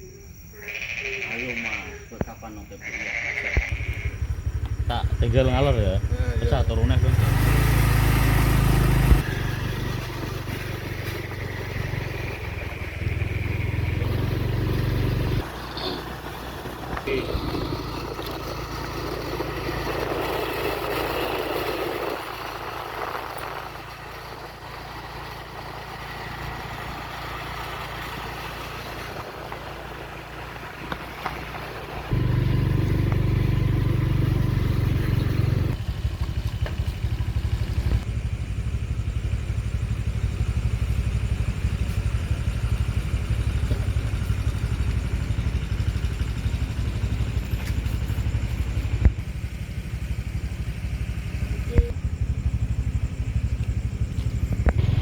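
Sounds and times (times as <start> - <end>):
engine running: 1.1 - 55.0.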